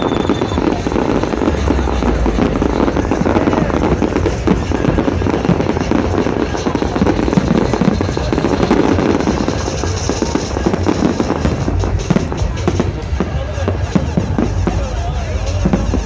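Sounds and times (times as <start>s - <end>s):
electronic dance music: 0.0s - 16.0s
fireworks popping and crackling: 0.0s - 16.0s.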